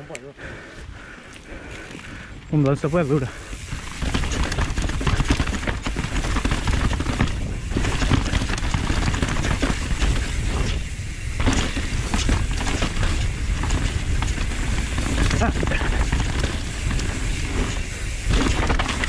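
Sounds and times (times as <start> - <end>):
wind buffeting microphone: 0.4 - 19.0
bike rattling over rocks: 1.4 - 19.0.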